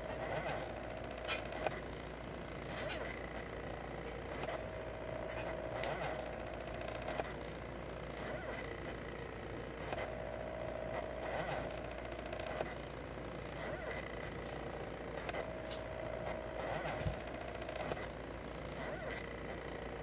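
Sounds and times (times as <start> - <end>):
stepper motors whining: 0.0 - 20.0.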